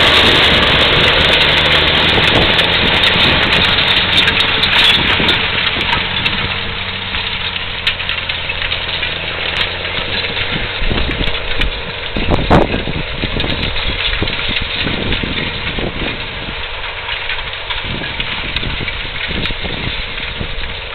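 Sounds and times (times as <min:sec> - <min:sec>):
tractor engine droning under load: 0:00.0 - 0:20.9.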